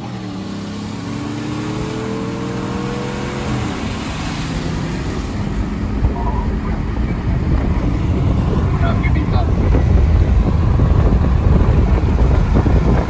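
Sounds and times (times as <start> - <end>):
engine pulling hard: 0.0 - 13.0
road noise: 0.0 - 13.0
wind rushing: 0.1 - 13.0.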